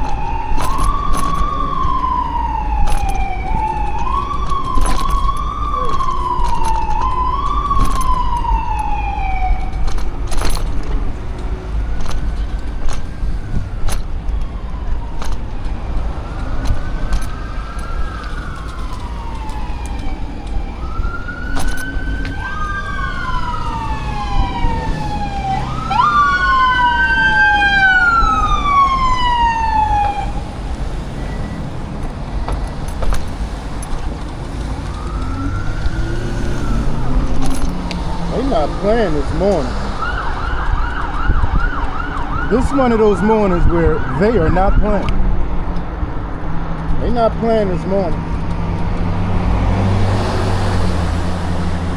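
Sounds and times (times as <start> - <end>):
emergency sirens wailing: 0.0 - 51.9.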